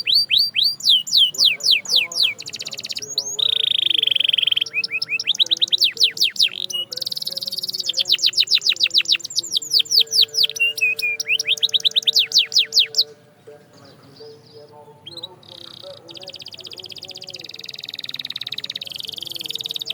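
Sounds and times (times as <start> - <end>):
canary singing: 0.0 - 19.9.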